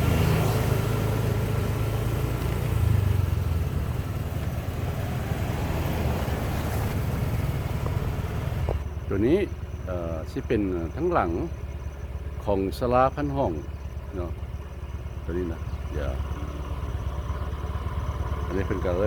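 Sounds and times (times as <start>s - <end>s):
motorcycle engine drone: 0.0s - 19.0s
road noise: 0.0s - 19.0s.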